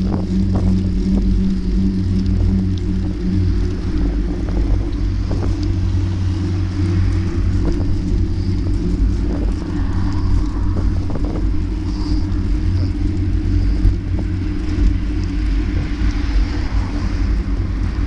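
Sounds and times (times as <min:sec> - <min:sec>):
bike rumbling in motion: 0:00.0 - 0:18.0.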